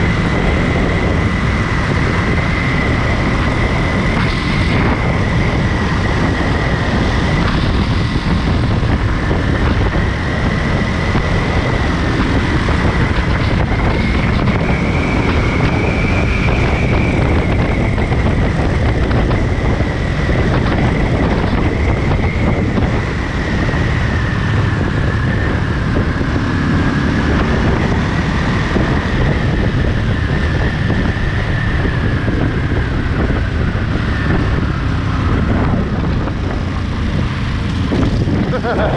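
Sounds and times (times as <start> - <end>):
motorcycle engine cruising: 0.0 - 38.9
steady high whine: 0.0 - 38.9
wind rush on microphone: 0.0 - 38.9.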